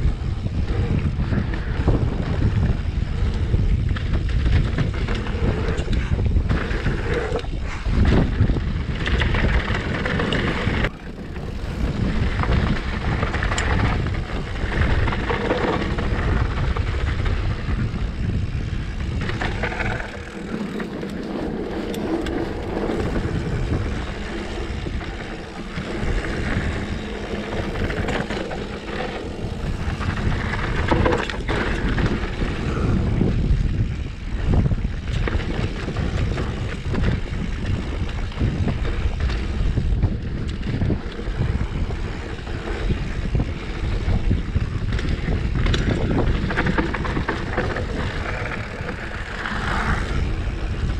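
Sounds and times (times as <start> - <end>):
bike knocking and rattling: 0.0 - 50.9
bike tyres rolling on dirt: 0.0 - 50.9
wind on microphone: 0.0 - 50.9.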